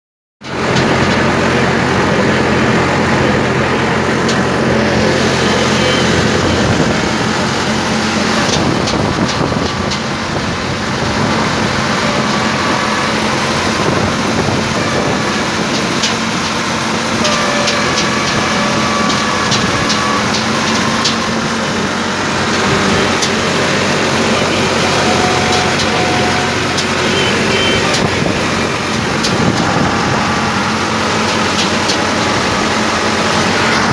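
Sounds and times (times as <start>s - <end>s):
tractor engine running: 0.4s - 33.9s
machine knocks and clatter: 4.2s - 33.9s.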